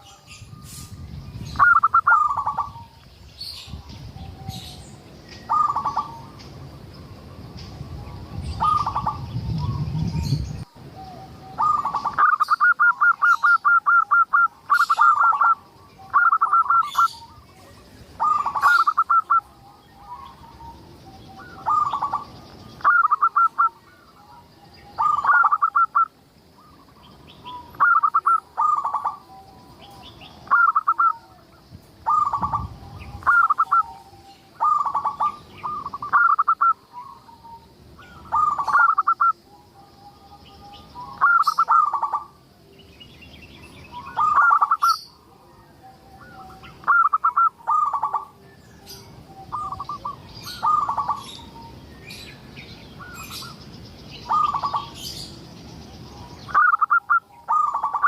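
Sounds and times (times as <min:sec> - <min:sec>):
dove cooing: 0:01.5 - 0:02.9, 0:05.4 - 0:06.4, 0:07.2 - 0:42.4, 0:43.9 - 0:51.8, 0:54.2 - 0:55.3, 0:56.2 - 0:58.0.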